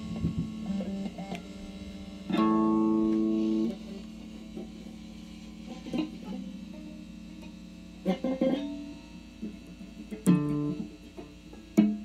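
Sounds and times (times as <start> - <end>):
electric guitar notes ringing: 0.0 - 12.0.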